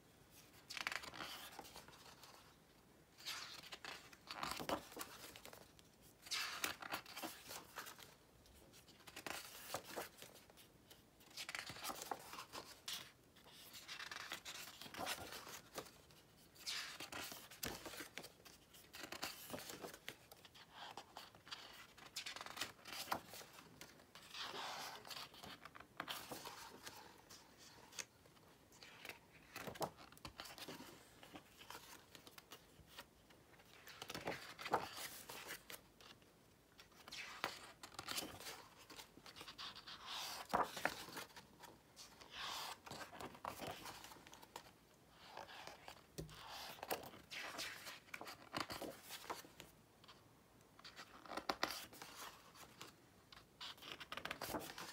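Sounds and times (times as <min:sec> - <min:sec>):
book pages turning: 0:00.5 - 0:02.5, 0:03.2 - 0:36.2, 0:36.8 - 0:50.2, 0:50.8 - 0:54.9.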